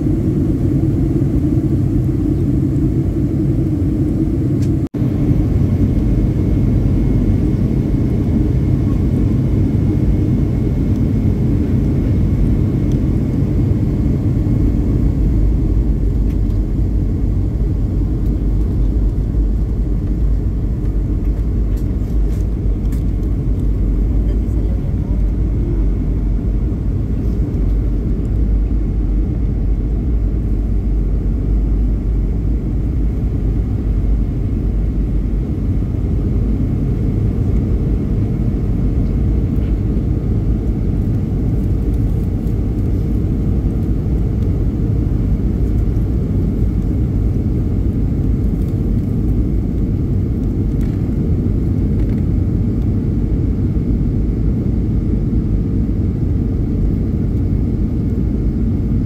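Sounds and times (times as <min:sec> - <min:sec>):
aircraft cabin engine and airflow rumble: 0:00.0 - 0:59.0.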